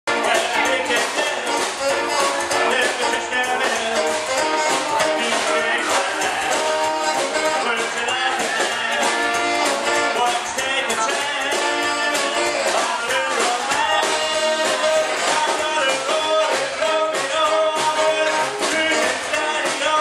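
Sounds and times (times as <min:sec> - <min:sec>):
live rock and roll band: 0:00.1 - 0:20.0
upright double bass: 0:00.1 - 0:20.0.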